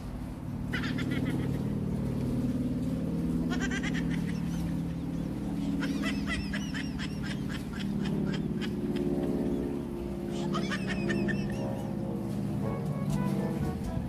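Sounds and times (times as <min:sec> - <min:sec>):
steady low drone: 0:00.0 - 0:14.0
birds chattering calls: 0:00.5 - 0:14.0.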